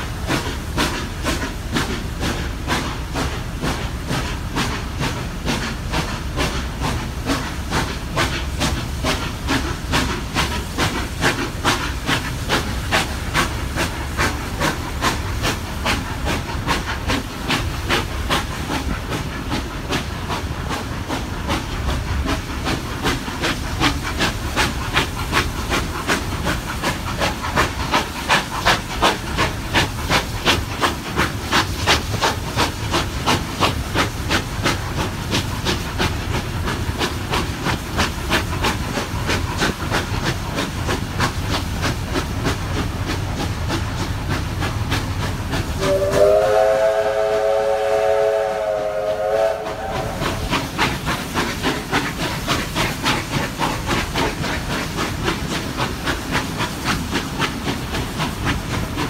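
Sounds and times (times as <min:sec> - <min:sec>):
steam locomotive chuffing: 0:00.0 - 0:59.0
train rumbling on rails: 0:00.0 - 0:59.0.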